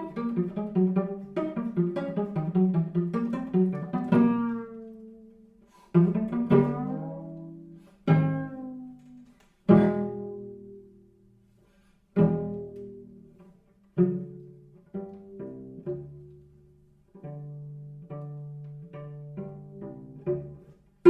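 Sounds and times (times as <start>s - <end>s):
cello plucked notes and chords: 0.0s - 21.0s.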